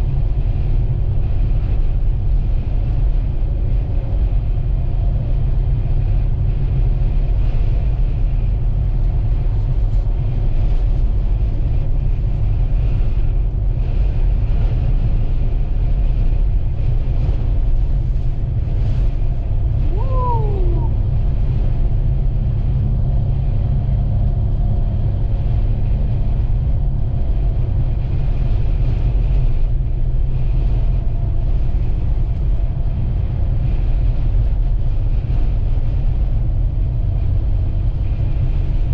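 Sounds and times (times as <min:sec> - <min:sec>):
vehicle driving rumble: 0:00.0 - 0:38.9.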